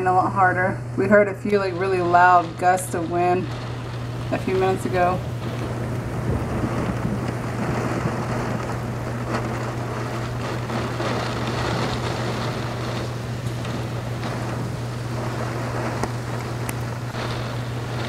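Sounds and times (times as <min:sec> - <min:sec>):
constant low hum: 0:00.0 - 0:18.0
gusting wind: 0:00.0 - 0:18.0
heavy rain: 0:00.0 - 0:18.0.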